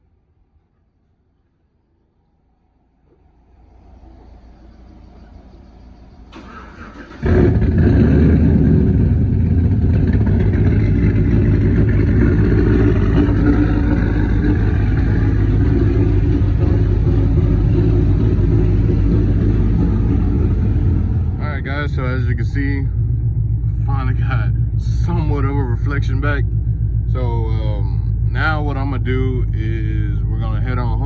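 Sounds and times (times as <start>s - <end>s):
truck engine starting and idling: 3.1s - 31.0s.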